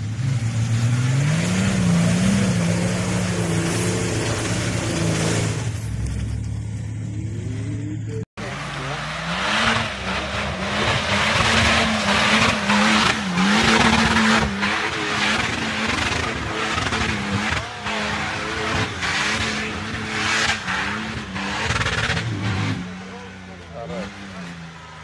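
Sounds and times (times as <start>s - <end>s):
off-road engines revving: 0.0s - 25.0s.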